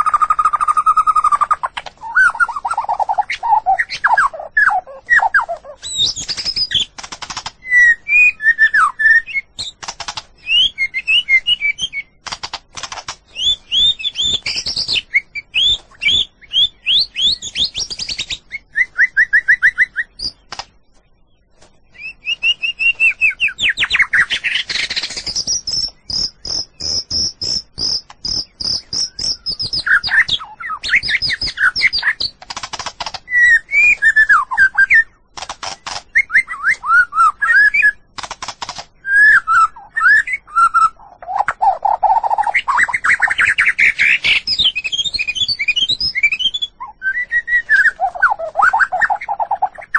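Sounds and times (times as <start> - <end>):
fast high bird trill: 0.0 - 20.6, 22.0 - 38.1, 39.0 - 49.9
bird singing varied song: 0.0 - 49.9.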